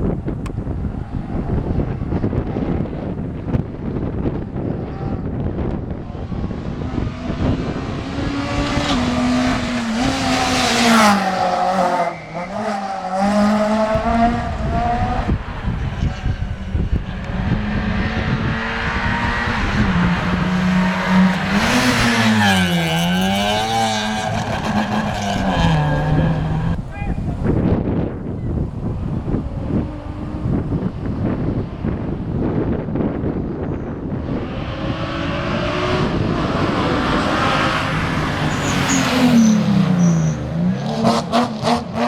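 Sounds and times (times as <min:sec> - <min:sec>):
rally car engine revving: 0:00.1 - 0:42.0.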